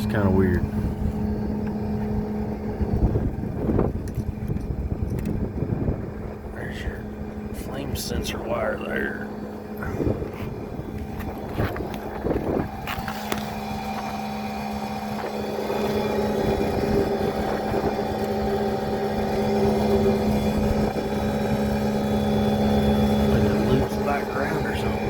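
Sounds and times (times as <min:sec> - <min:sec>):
blower humming: 0:00.0 - 0:25.0
wind buffeting microphone: 0:00.0 - 0:25.0.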